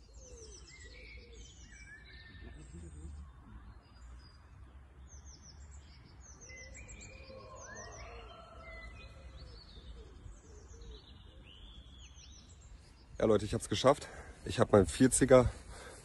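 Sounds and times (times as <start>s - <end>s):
songbirds singing and chirping: 0.0s - 16.0s.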